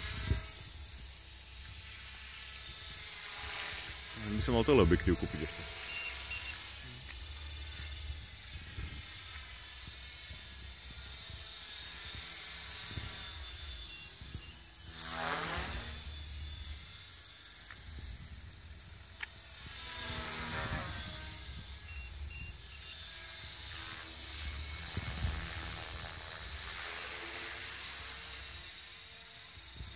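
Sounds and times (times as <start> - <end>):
rc helicopter motor and rotor whine: 0.0 - 29.9.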